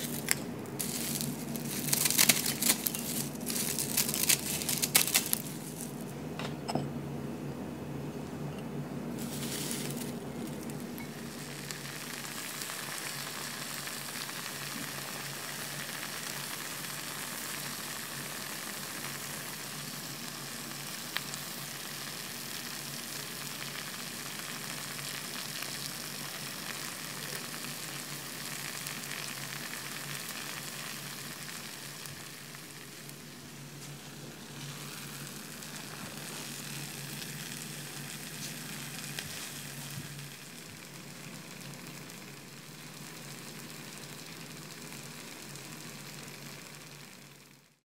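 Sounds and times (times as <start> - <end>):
food sizzling in a hot pot: 0.0 - 6.1, 9.1 - 47.8.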